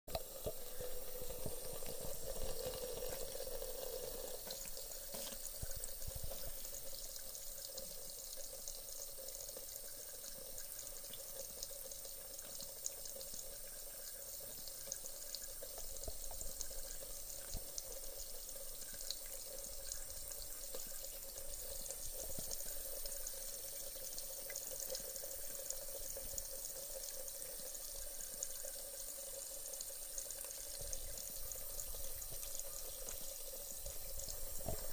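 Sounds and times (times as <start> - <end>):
tap water running into sink: 0.1 - 34.9.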